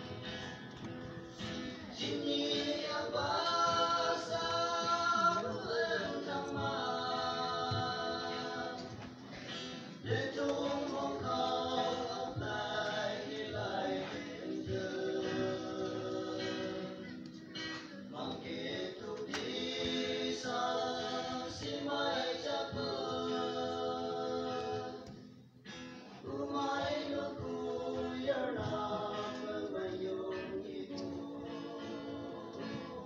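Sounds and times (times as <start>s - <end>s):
choir singing: 1.8s - 25.2s, 26.2s - 33.0s.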